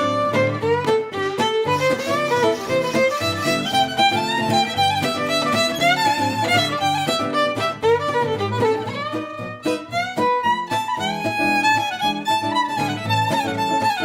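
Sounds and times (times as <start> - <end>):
fast fiddle tune with strings: 0.0 - 14.0.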